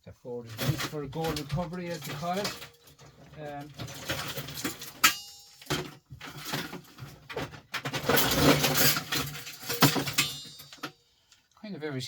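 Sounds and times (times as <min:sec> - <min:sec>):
rummaging clatter of plastic parts: 0:00.3 - 0:11.0.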